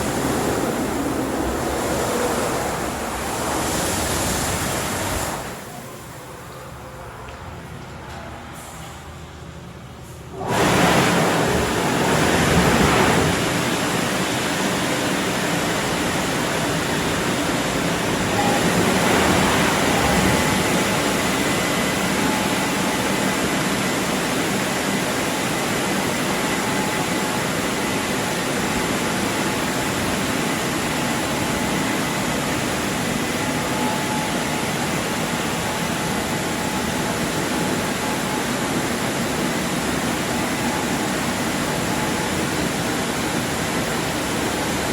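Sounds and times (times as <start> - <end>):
car wash rushing noise: 0.0 - 44.9.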